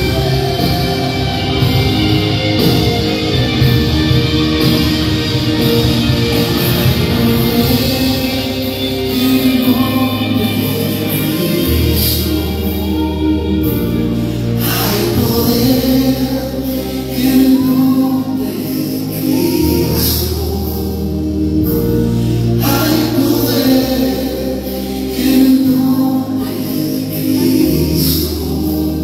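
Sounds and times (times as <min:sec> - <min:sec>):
deep bass line: 0:00.0 - 0:29.0
voices singing gospel song: 0:00.0 - 0:29.0.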